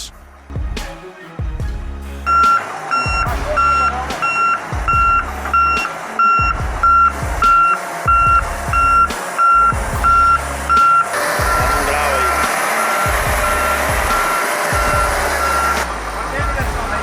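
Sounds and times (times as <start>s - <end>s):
reversing alarm beeping: 2.2s - 16.6s.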